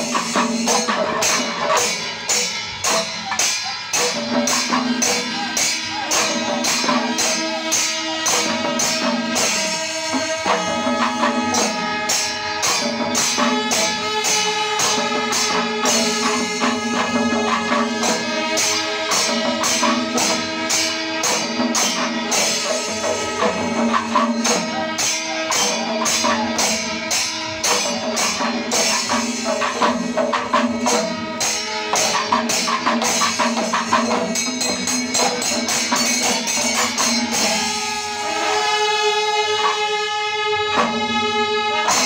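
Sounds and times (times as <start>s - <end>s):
curved horns holding notes: 0.0s - 33.0s, 36.8s - 42.0s
barrel drums beating: 0.0s - 38.0s
metal cymbals: 0.0s - 42.0s.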